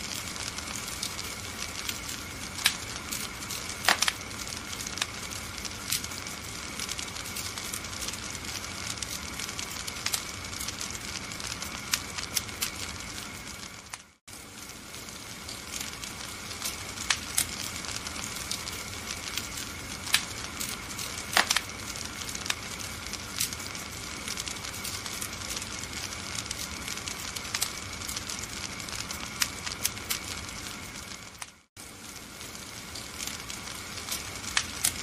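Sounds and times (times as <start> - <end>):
fire hissing: 0.0 - 35.0
fire popping: 0.0 - 35.0
wood fire crackling: 0.0 - 35.0.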